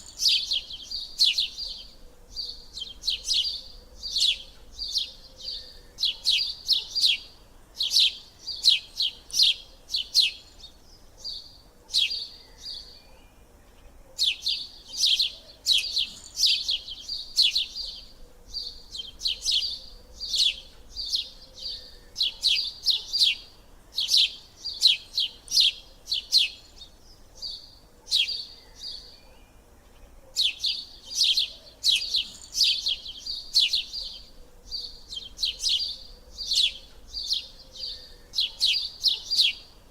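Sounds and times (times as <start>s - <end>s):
small bird chirping rapidly: 0.0s - 12.3s, 14.2s - 29.1s, 30.4s - 39.9s.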